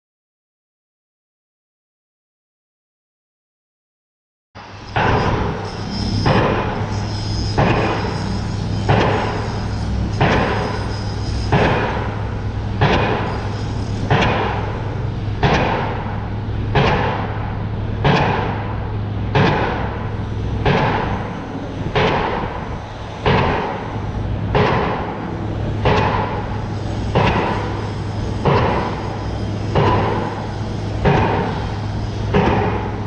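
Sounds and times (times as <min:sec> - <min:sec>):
steady low hum: 0:04.6 - 0:33.0
heavy banging impacts: 0:05.0 - 0:33.0.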